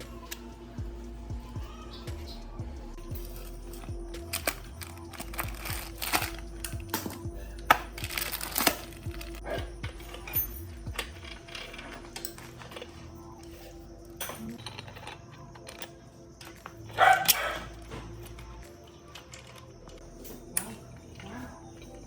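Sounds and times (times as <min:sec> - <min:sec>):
faint background music: 0:00.0 - 0:22.0
metallic clicks of small parts: 0:03.1 - 0:22.0.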